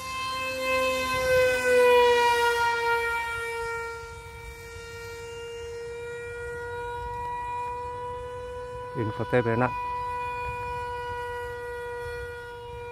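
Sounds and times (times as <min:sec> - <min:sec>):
model jet electric motor whining: 0:00.0 - 0:12.9.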